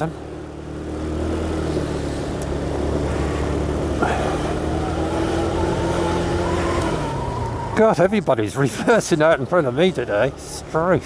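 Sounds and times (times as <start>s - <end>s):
higher engine tone: 0.0s - 11.0s
motorcycle engine running: 0.0s - 11.0s.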